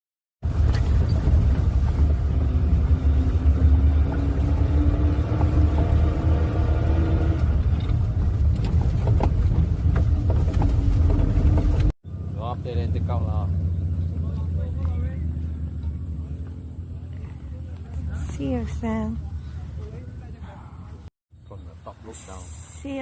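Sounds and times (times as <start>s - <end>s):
vehicle engine rumbling: 0.4s - 23.0s.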